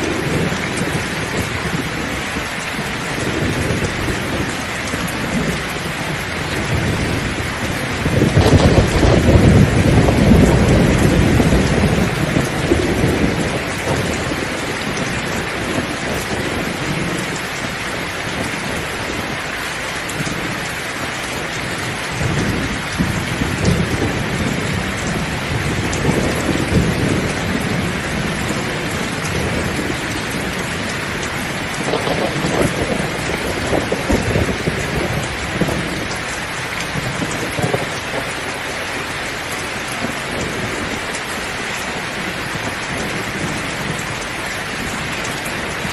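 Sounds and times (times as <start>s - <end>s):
heavy rain pouring: 0.0s - 45.9s
thunder rumbling: 0.0s - 45.9s.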